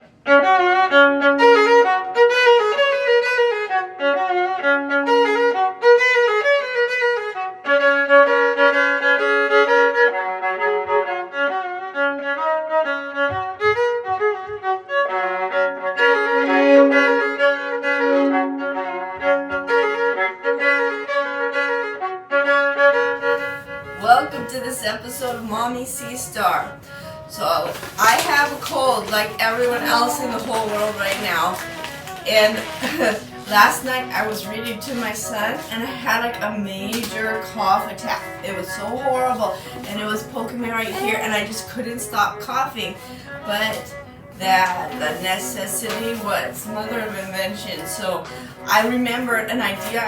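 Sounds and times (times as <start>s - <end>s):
violin melody: 0.0s - 50.0s.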